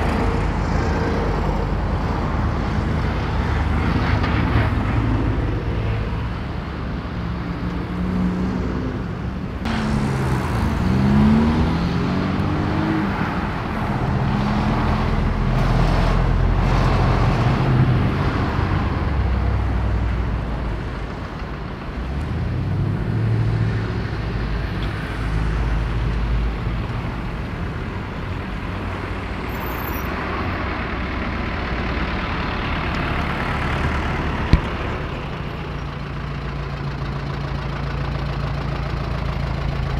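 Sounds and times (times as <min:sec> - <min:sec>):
vehicles passing and accelerating: 0:00.0 - 0:39.9.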